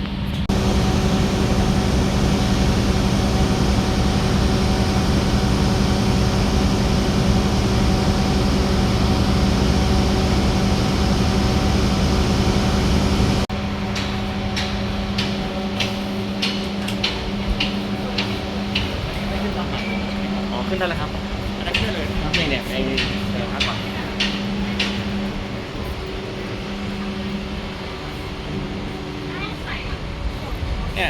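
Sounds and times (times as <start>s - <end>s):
train car machinery hum: 0.0s - 31.0s.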